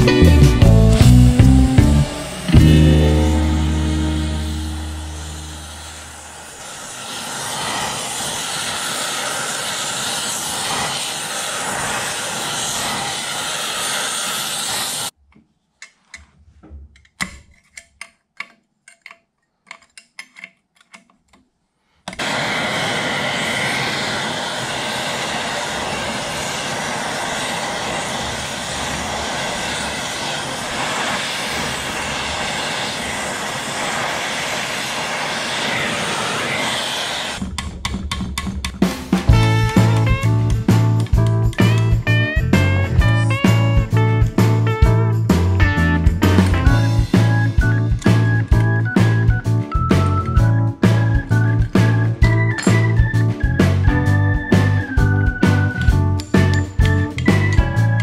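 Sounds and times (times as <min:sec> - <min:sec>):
gas torch flame hissing: 0:00.7 - 0:15.2, 0:22.1 - 0:37.4, 0:39.2 - 0:44.6, 0:45.2 - 0:50.2, 0:50.8 - 0:53.9, 0:54.5 - 0:58.0.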